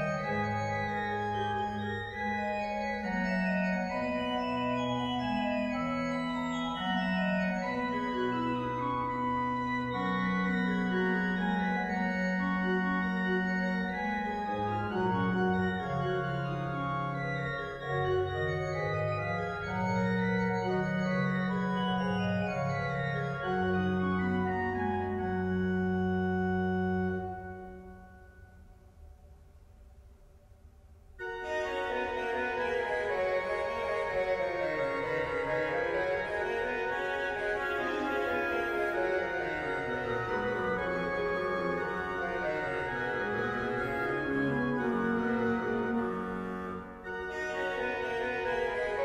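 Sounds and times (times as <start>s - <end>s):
pipe organ playing: 0.0s - 28.6s, 31.2s - 49.0s.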